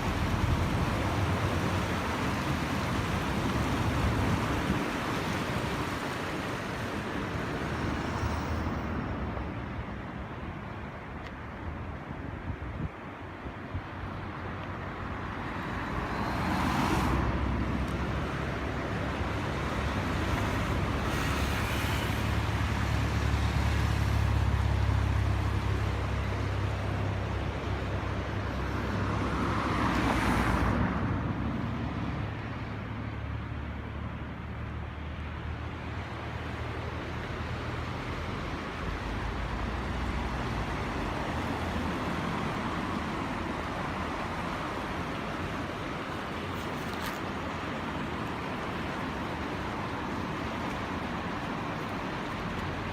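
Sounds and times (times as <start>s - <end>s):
traffic rumble: 0.0s - 52.9s
vehicles passing: 0.0s - 52.9s.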